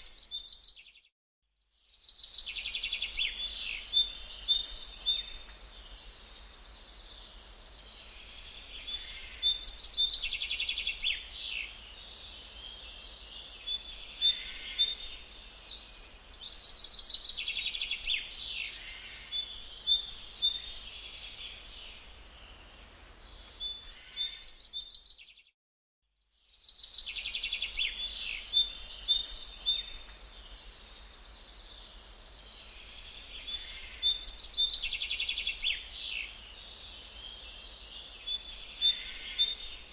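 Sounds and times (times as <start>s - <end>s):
songbirds chirping and trilling: 0.0s - 25.5s, 26.2s - 39.9s.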